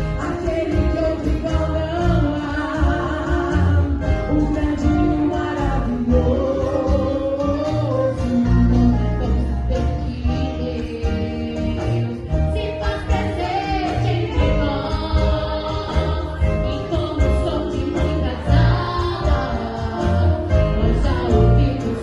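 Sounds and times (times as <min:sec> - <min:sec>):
band with heavy bass and guitar: 0:00.0 - 0:22.0
gospel singing: 0:00.0 - 0:22.0.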